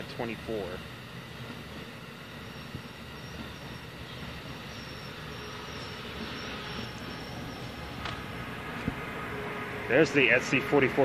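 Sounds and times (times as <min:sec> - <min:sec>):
train wheels rumbling on rails: 0:00.0 - 0:11.0
high-pitched wheel squeal: 0:01.9 - 0:11.0.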